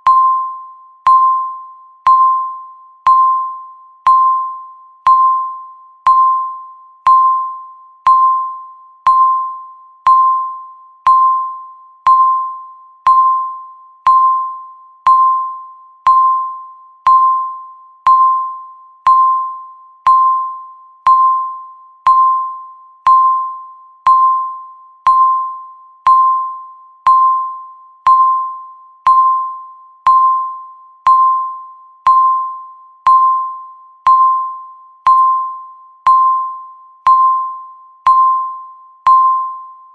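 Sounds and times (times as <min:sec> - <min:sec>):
electronic countdown timer beeps: 0:00.0 - 0:39.9.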